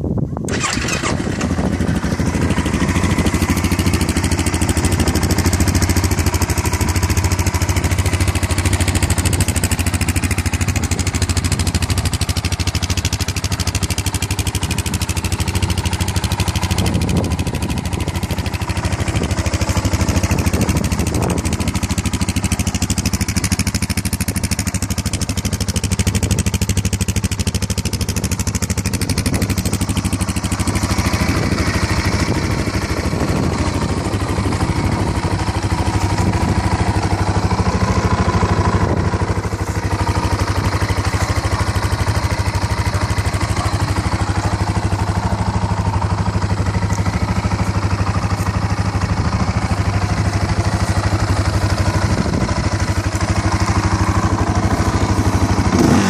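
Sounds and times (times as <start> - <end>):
atv engine idling: 0.0 - 56.0.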